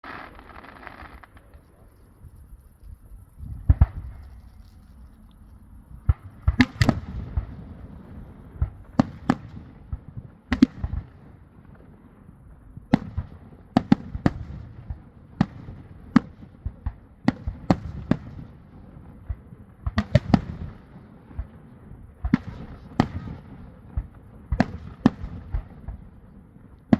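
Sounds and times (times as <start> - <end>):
firework bangs: 0.0 - 2.3, 3.5 - 4.6, 5.9 - 26.9.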